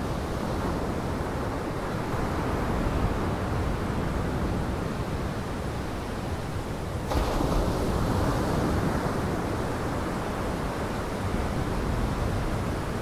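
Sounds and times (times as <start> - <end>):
lake surf: 0.0 - 13.0
wind: 0.0 - 13.0.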